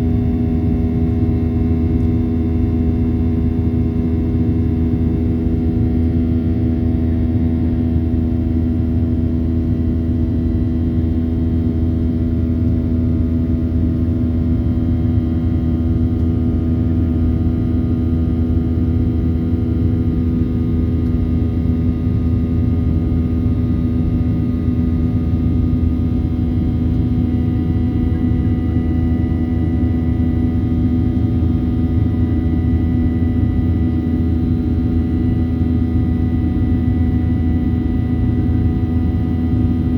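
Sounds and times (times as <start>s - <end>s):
airplane cabin rumble: 0.0s - 39.9s
steady humming tones: 0.0s - 39.9s.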